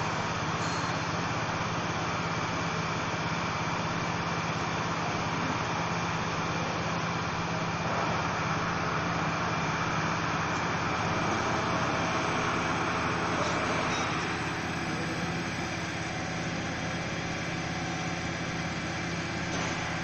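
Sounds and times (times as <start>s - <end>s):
machinery humming and hissing: 0.0s - 20.0s.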